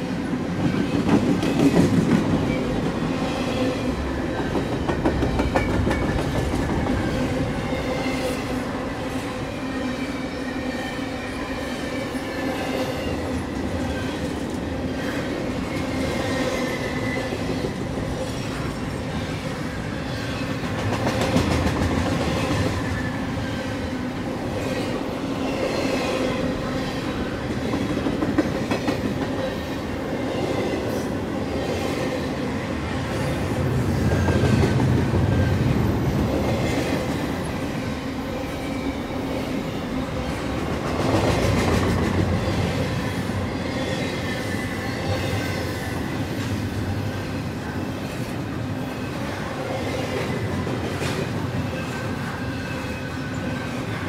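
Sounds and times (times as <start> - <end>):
freight train wheels rolling on rail: 0.0 - 54.0.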